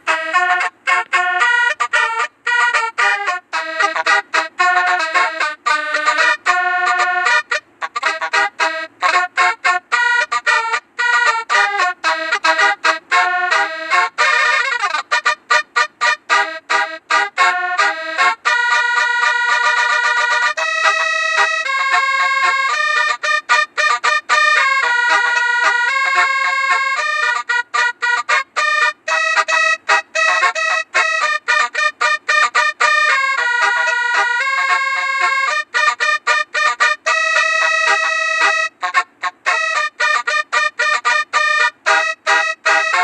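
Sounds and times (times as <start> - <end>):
bus horn playing a tune: 0.0 - 43.0.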